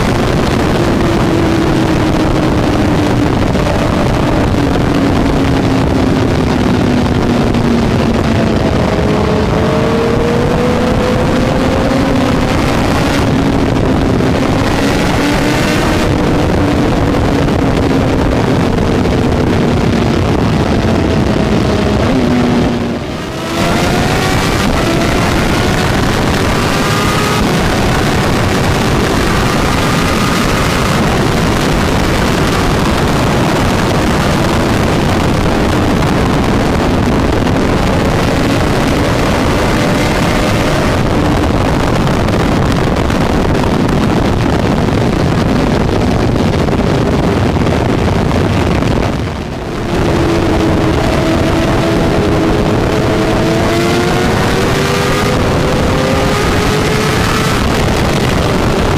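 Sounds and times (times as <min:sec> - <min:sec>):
motorcycle engine pulling hard: 0:00.0 - 0:58.9
wind noise on microphone: 0:00.0 - 0:58.9.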